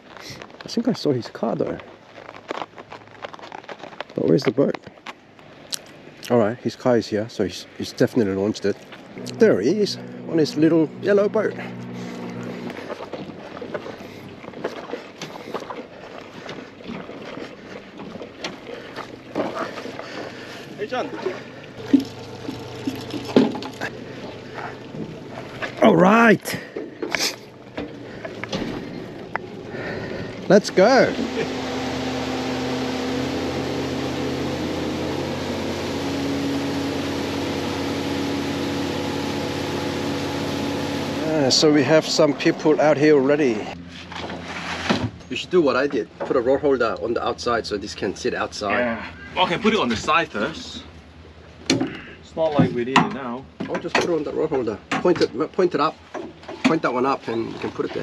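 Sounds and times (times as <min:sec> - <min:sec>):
footsteps on floating pontoon: 0:00.0 - 0:06.3, 0:07.8 - 0:58.0
outboard motor running: 0:05.2 - 0:58.0
water rushing past hull: 0:05.4 - 0:52.8.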